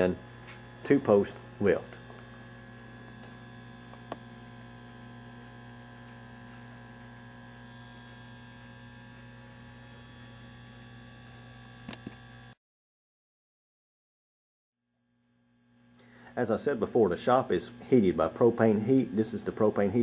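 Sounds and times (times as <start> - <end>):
electrical mains hum: 0.0 - 12.6, 15.2 - 20.0.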